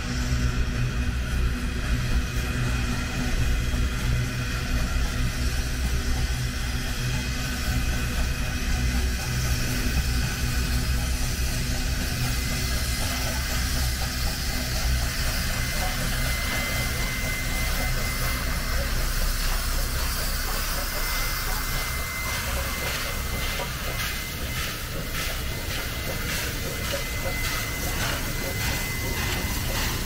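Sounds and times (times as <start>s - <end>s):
steam hissing: 0.0s - 30.0s
steam locomotive beats: 0.0s - 30.0s.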